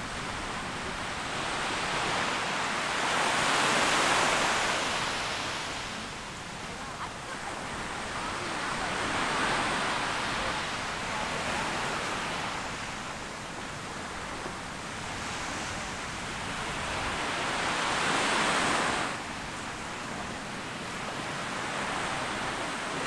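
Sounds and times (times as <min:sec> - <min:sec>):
small waves breaking on sandy beach: 0:00.0 - 0:23.0.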